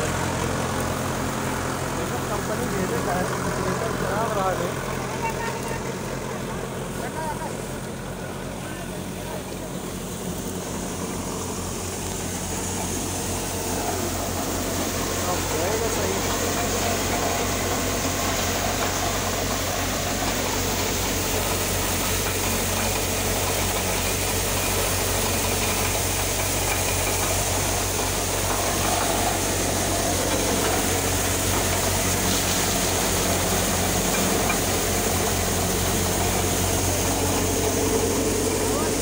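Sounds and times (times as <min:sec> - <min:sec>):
grain thresher droning: 0:00.0 - 0:39.0.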